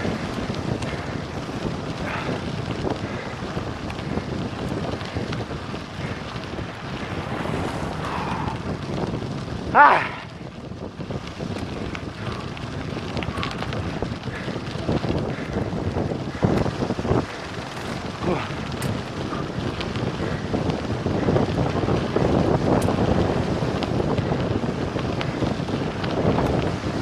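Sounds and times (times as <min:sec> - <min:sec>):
tyres rumbling on gravel: 0:00.0 - 0:27.0
wind buffeting microphone: 0:00.0 - 0:27.0.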